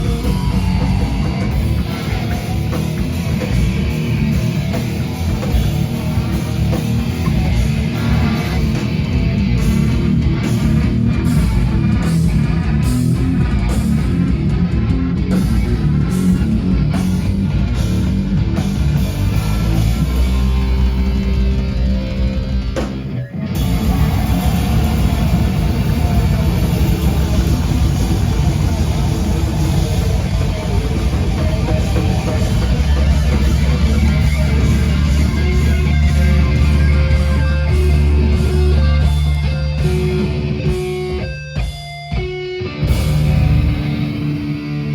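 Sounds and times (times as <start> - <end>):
drums: 0.0 - 44.9
electric guitar: 0.0 - 44.9.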